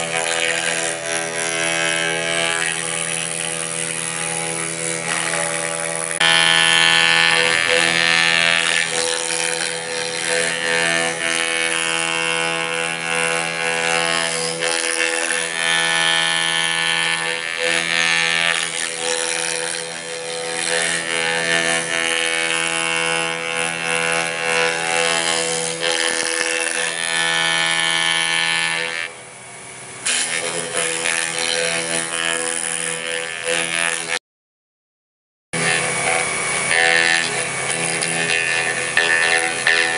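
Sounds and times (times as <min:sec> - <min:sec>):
end mill cutting wood: 0:00.0 - 0:34.2, 0:35.6 - 0:39.9
milling machine spindle whine: 0:00.0 - 0:34.2, 0:35.6 - 0:39.9.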